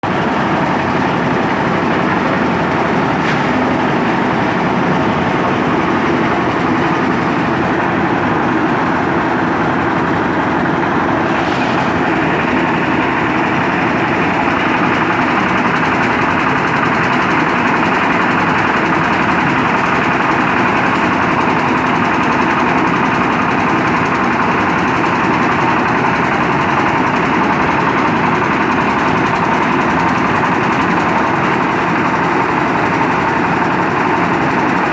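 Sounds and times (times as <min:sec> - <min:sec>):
concrete mixer engine running: 0:00.0 - 0:34.9.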